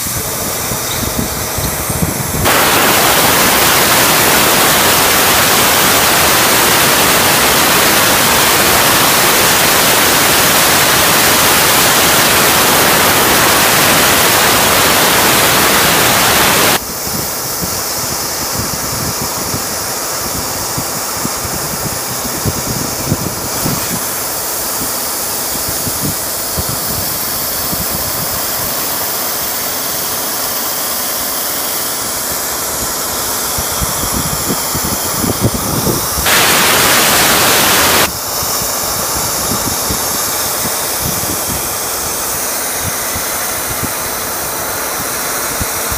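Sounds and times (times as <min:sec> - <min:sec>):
laser cutter hissing: 0:00.0 - 0:45.9.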